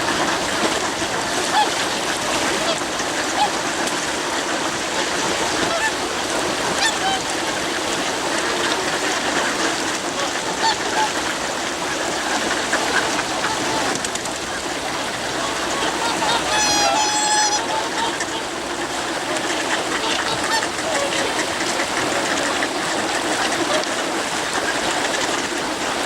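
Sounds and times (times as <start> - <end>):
ducks quacking: 0.0 - 26.0
swans honking: 0.0 - 26.0.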